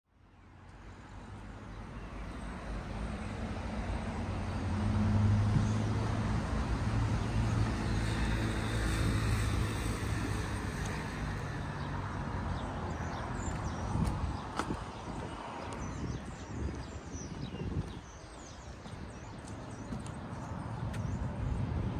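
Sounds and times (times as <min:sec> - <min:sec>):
road traffic noise: 0:00.1 - 0:21.9
vehicle engine hum passing: 0:02.4 - 0:21.9.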